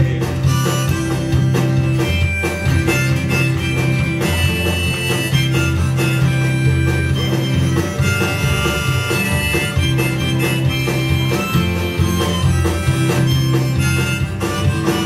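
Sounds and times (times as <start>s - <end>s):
acoustic guitar strumming: 0.0s - 15.0s
harmonica wavering notes: 0.0s - 15.0s.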